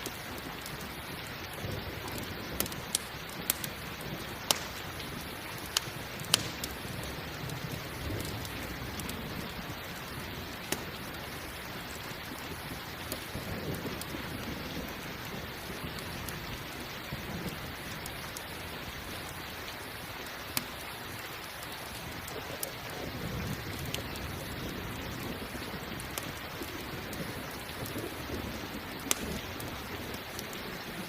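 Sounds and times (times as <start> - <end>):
thunder rumbling: 0.0 - 19.8, 21.1 - 31.0
campfire crackling: 0.0 - 31.0
steady rain: 0.0 - 31.0.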